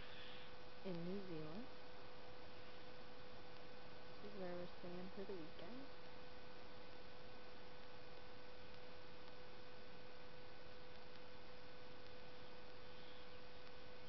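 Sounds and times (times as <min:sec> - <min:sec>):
electrical hum: 0:00.0 - 0:14.0
steady hiss: 0:00.0 - 0:14.0.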